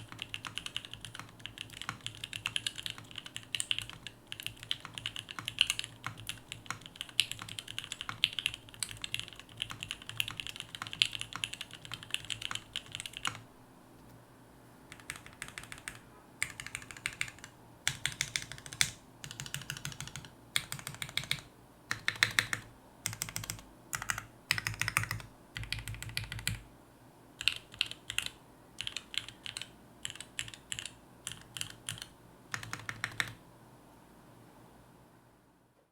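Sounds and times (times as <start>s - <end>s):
mechanical keyboard typing: 0.0s - 13.4s, 14.9s - 26.6s, 27.4s - 33.4s.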